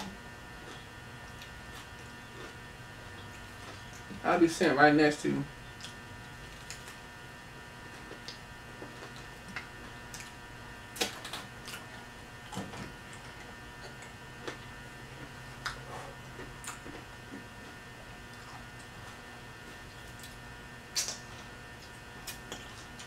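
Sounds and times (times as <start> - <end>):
person chewing: 0.0 - 4.2, 5.6 - 23.0
low electrical hum: 0.0 - 23.0.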